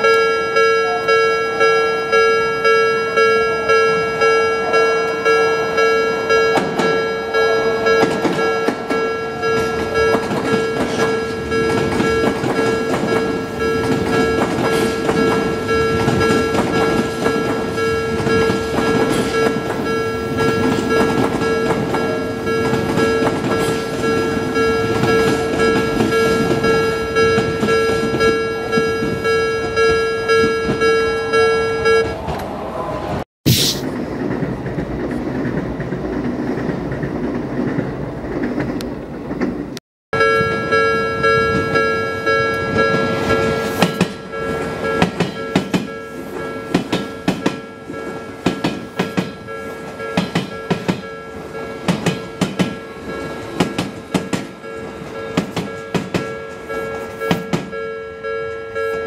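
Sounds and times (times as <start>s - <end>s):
level-crossing alarm clanging: 0.0s - 32.5s, 35.5s - 59.0s
train rattling over crossing: 0.0s - 59.0s.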